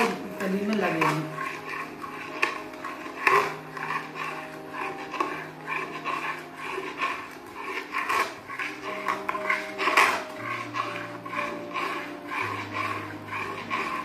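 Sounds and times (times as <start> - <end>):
metal spatula scraping a pan: 0.0 - 14.0.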